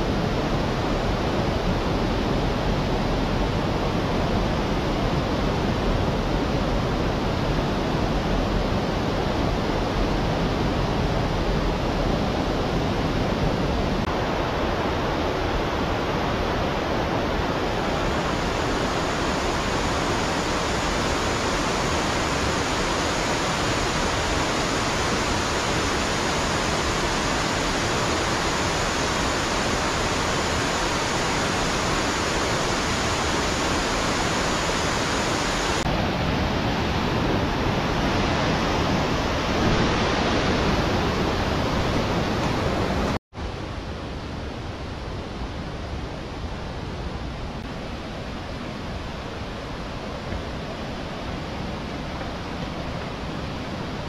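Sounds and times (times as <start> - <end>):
stream rushing over rocks: 0.1 - 44.2.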